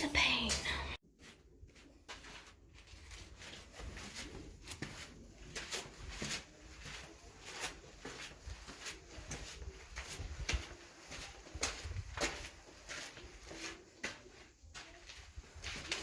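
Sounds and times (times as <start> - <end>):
footsteps on stone stairs: 0.0 - 16.0.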